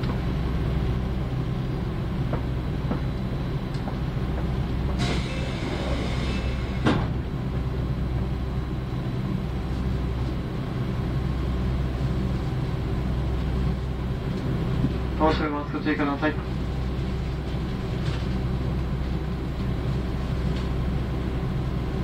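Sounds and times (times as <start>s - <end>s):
electric train hum: 0.0s - 22.0s.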